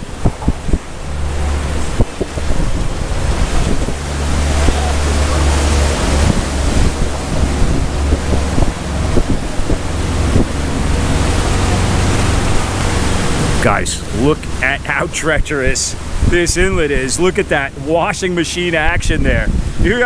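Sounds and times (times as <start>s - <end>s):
boat motoring past: 0.0s - 20.0s
churning water: 0.0s - 20.0s
wind buffeting microphone: 0.0s - 20.0s.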